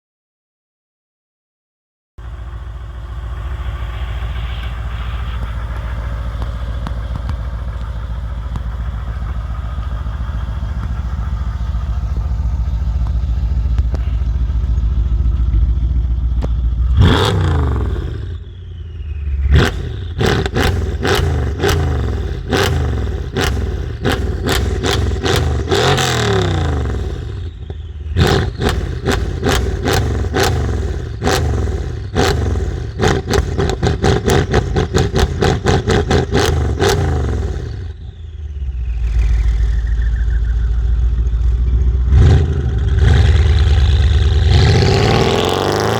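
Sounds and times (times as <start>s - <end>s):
car engine revving: 2.2s - 45.9s
car engine running: 2.2s - 45.9s.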